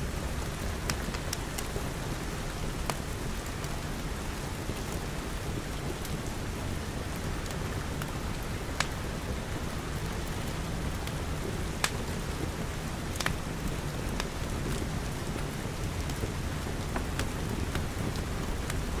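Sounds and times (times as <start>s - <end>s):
rain pattering on glass: 0.0s - 19.0s
wood fire crackles: 0.0s - 19.0s.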